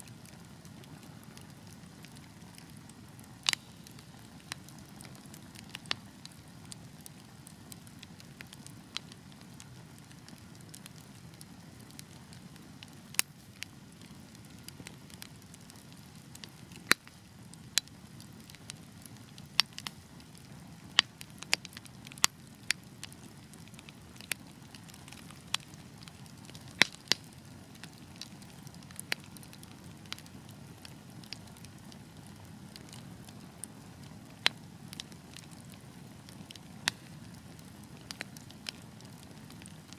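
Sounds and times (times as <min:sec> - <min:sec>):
wood fire burning and crackling: 0:00.0 - 0:39.9.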